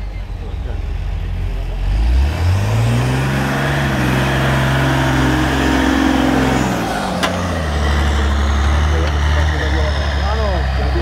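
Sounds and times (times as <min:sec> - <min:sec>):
diesel engine revving under load: 0:00.0 - 0:11.0.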